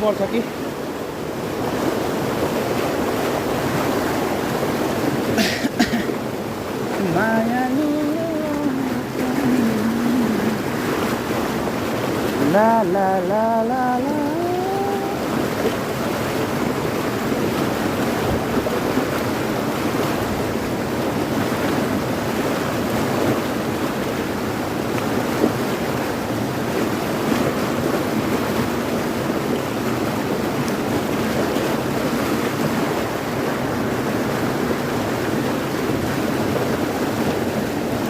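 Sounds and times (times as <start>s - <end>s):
rushing river water: 0.0s - 38.0s.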